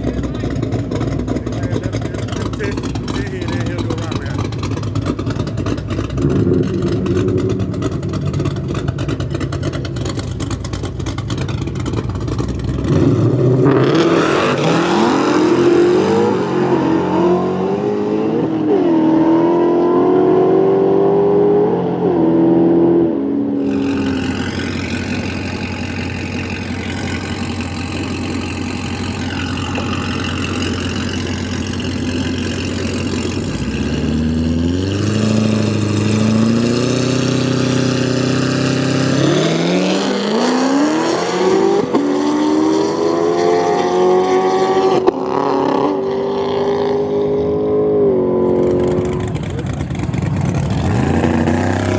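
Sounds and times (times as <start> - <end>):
drag race car engines revving: 0.0 - 51.9.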